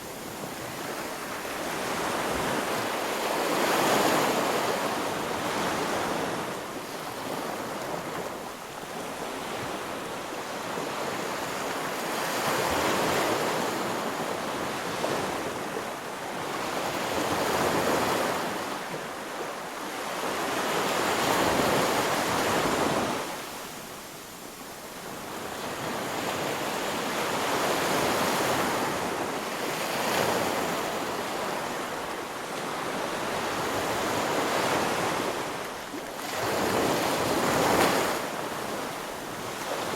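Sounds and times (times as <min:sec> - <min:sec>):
waves surging and washing: 0:00.0 - 0:39.9.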